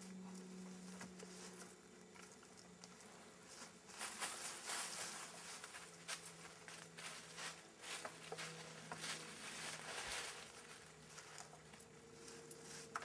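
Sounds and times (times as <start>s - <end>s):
branches rustling and scraping: 0.0s - 13.0s
faint steady hum: 0.0s - 13.0s.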